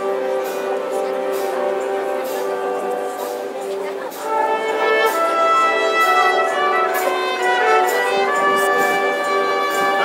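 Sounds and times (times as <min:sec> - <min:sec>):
brass band playing slow melody: 0:00.0 - 0:10.0.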